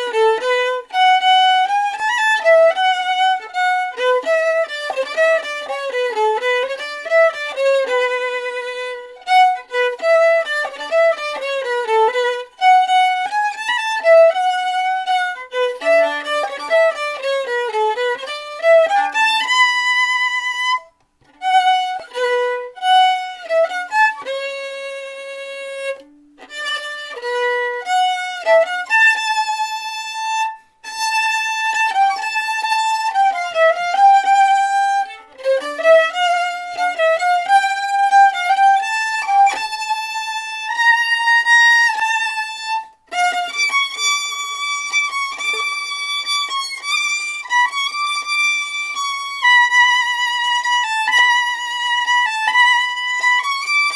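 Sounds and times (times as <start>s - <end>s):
solo violin melody: 0.0s - 53.9s.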